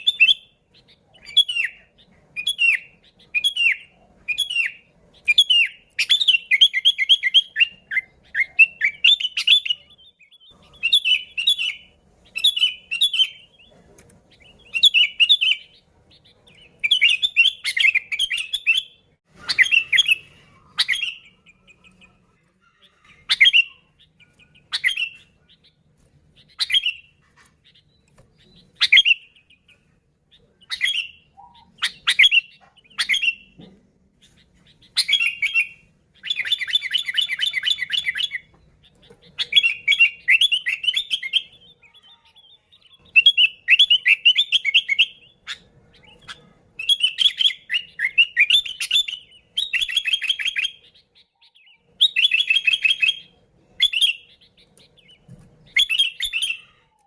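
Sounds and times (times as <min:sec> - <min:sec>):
bird calling and chattering: 0:00.0 - 0:57.0.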